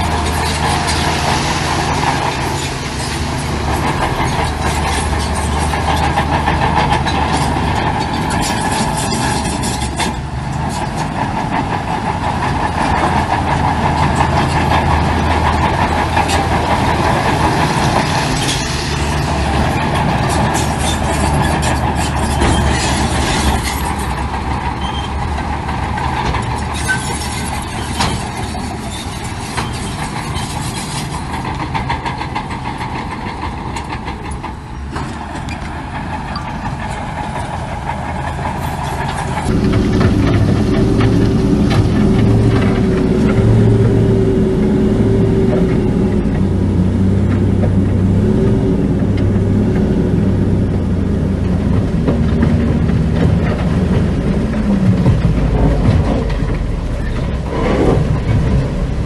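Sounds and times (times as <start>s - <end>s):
clanks and knocks: 0.0s - 48.1s, 50.7s - 59.0s
diesel machinery running: 0.0s - 59.0s.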